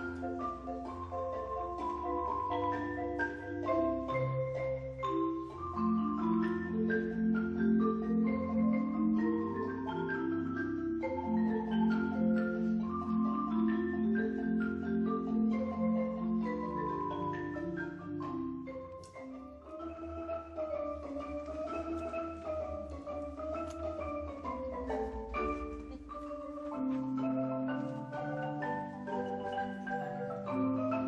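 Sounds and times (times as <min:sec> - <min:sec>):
marimba music: 0:00.0 - 0:31.0.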